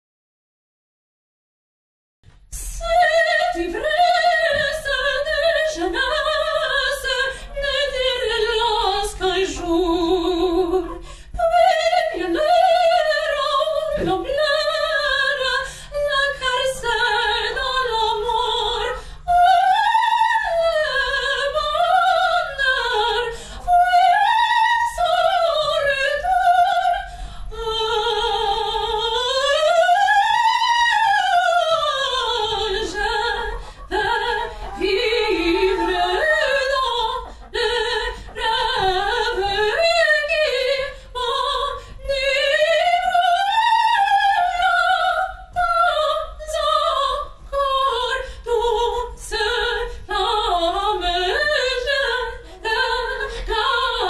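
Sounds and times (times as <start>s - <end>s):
high operatic singing voice: 2.8s - 54.0s.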